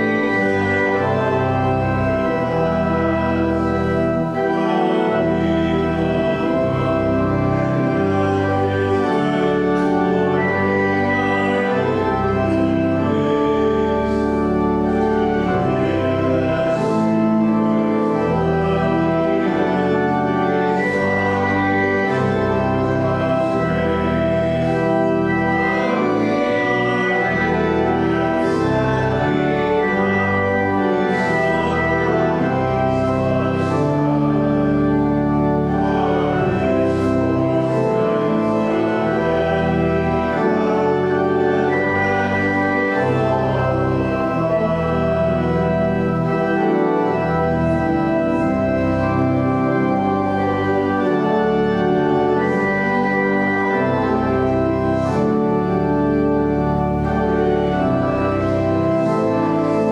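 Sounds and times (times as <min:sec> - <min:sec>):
organ chords: 0:00.0 - 0:59.9.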